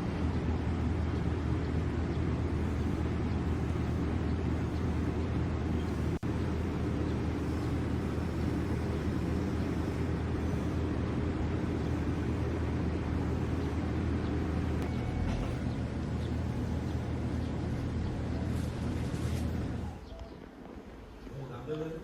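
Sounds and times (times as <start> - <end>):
low rumbling background noise: 0.0 - 22.0.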